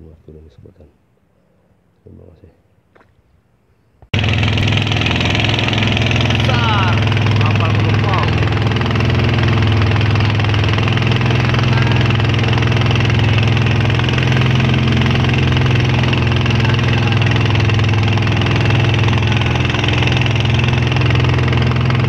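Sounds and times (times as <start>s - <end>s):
boat engine droning: 4.2s - 22.0s.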